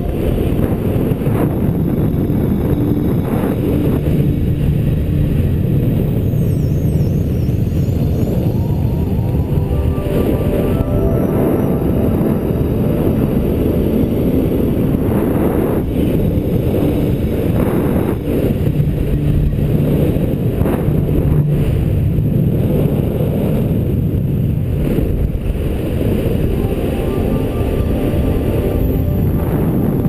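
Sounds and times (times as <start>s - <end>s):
wind buffeting microphone: 0.0s - 27.4s.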